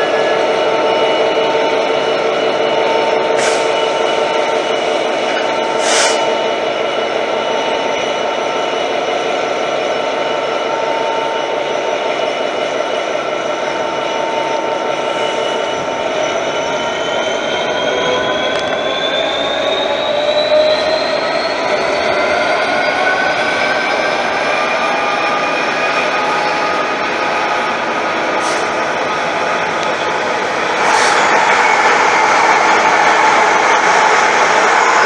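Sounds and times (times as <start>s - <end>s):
train engine humming: 0.0s - 35.0s.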